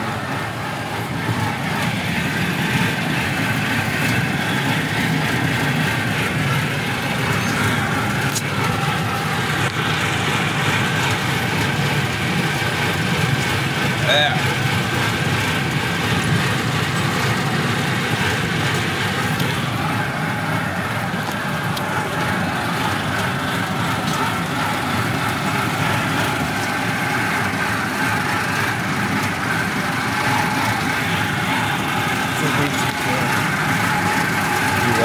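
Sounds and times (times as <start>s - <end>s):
ride train running on track: 0.0s - 35.0s.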